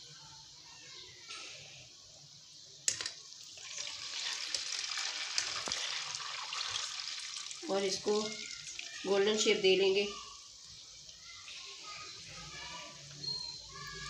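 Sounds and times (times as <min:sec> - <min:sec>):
dough sizzling in hot oil: 0:00.0 - 0:14.0.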